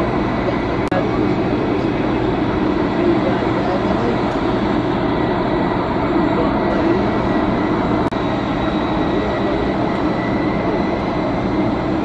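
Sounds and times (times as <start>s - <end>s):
jet engines rumbling and whining: 0.0s - 12.0s.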